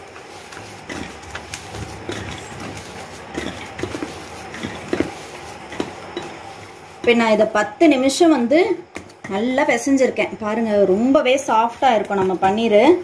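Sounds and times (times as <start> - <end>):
hand kneading in steel basin: 0.0 - 13.0.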